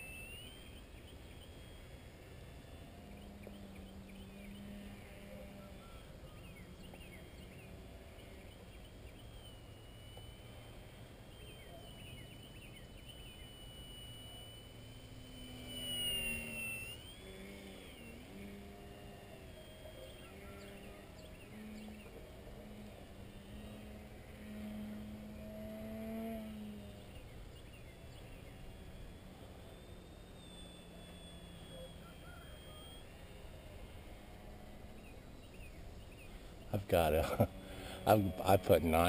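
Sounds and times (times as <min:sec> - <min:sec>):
model plane motor whine: 0:00.0 - 0:39.0.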